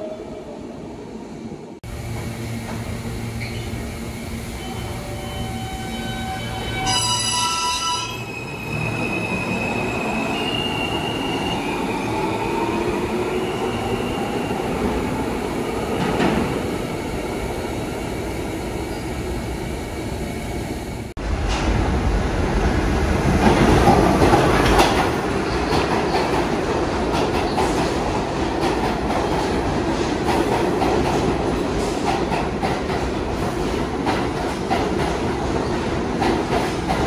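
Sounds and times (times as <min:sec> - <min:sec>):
subway train pulling out: 0:00.0 - 0:37.0.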